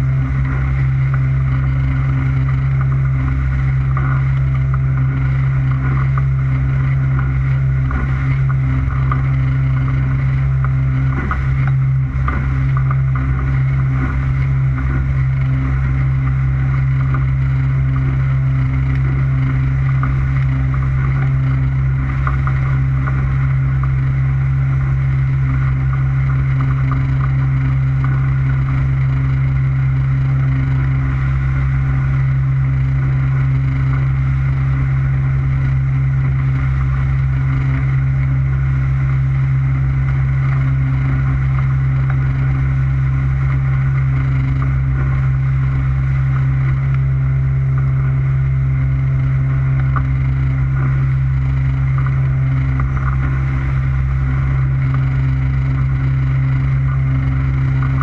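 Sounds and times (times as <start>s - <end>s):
motorboat engine droning: 0.0s - 58.0s
water and wind hiss: 0.0s - 58.0s.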